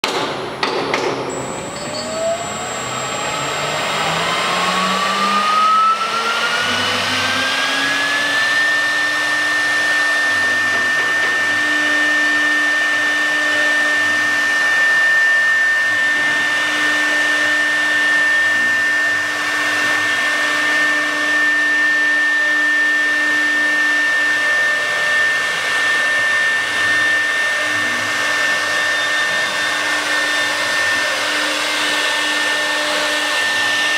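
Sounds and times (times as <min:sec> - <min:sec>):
router spindle motor whine: 0:01.3 - 0:33.9.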